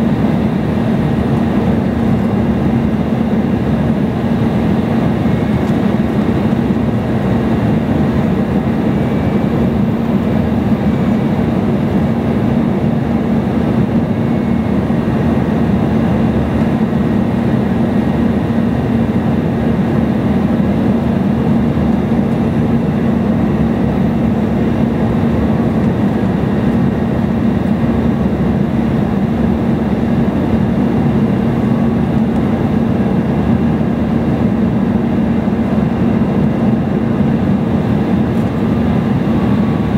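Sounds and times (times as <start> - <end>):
airliner cabin engine and airflow rush: 0.0 - 39.9
constant low hum: 0.0 - 39.9.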